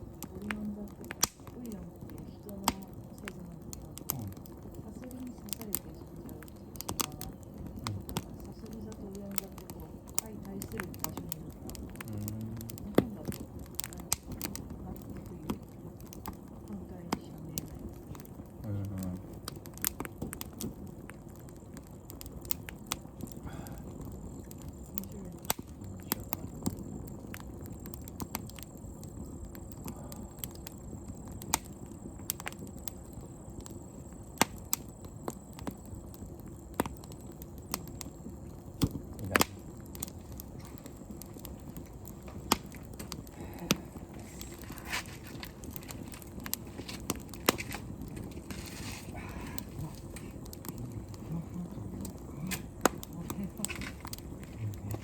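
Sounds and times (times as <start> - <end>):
campfire crackling and popping: 0.0 - 55.0
low steady rumble: 0.0 - 55.0.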